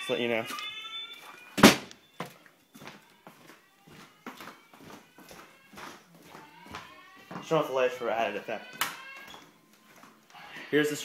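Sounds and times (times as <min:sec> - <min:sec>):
distant fire alarm tone: 0:00.0 - 0:10.8.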